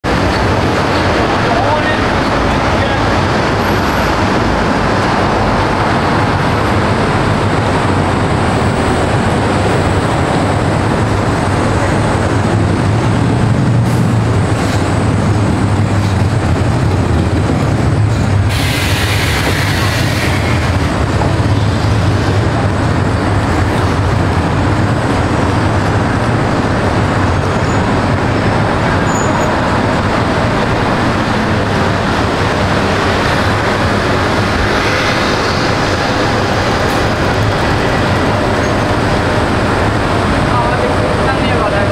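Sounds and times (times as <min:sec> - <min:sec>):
low rumble of vehicle: 0:00.0 - 0:41.9.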